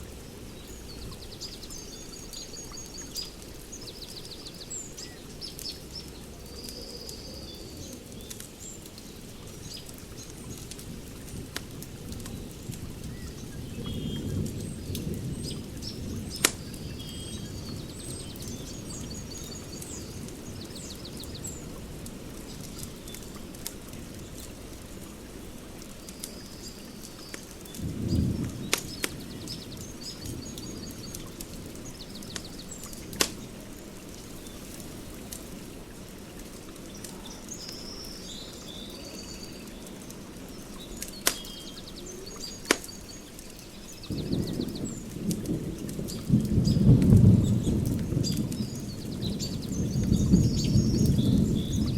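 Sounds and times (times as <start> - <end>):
birds chirping: 0.0 - 51.9
wood fire crackling: 0.0 - 51.9.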